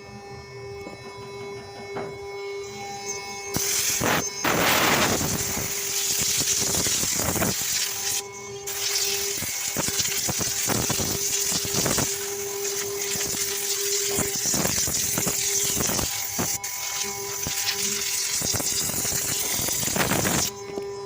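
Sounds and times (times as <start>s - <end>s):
router spindle whine: 0.0s - 21.0s.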